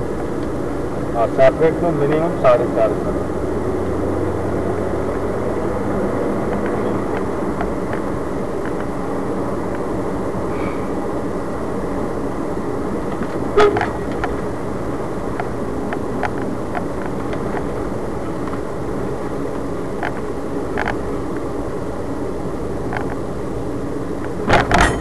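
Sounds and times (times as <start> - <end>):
car interior road noise: 0.0 - 25.0.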